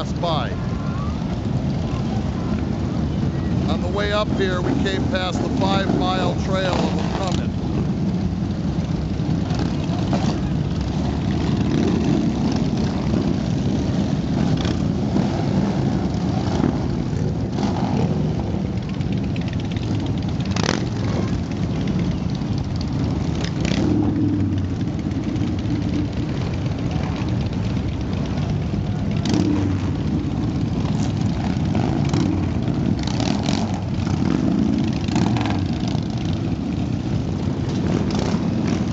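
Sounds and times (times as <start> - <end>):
motorcycle engines running: 0.0 - 38.9.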